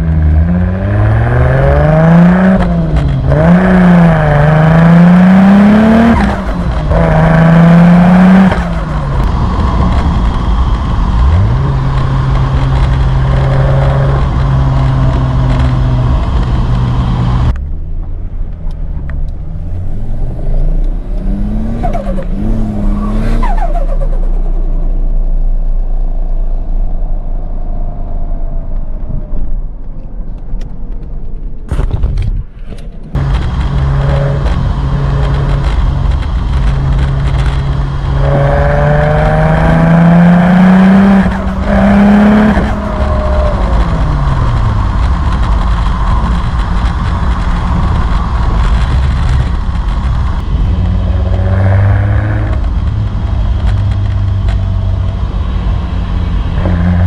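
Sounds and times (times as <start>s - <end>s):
car engine revving: 0.0s - 26.8s, 33.2s - 57.0s.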